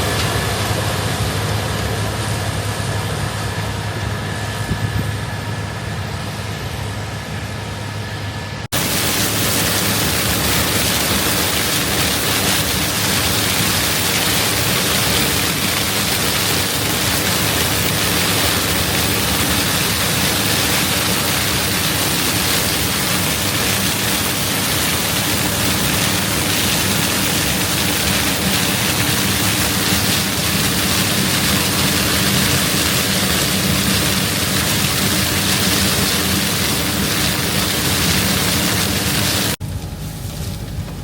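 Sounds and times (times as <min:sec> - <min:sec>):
diesel machinery engine drone: 0:00.0 - 0:41.0
loud rush of noise: 0:00.0 - 0:41.0.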